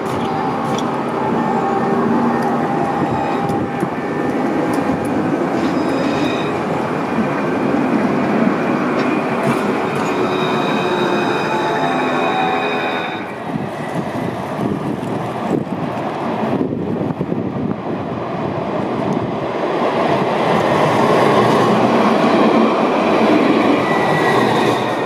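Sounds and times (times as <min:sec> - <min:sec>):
tram wheels rumbling: 0:00.0 - 0:25.0.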